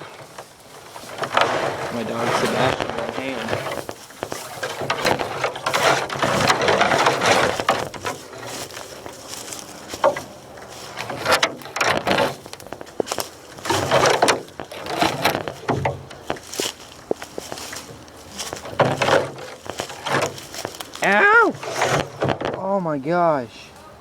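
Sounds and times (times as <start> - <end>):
twigs snapping: 0.0 - 22.7
footsteps crunching dry leaves: 0.0 - 23.4
brush rustling: 0.0 - 24.0.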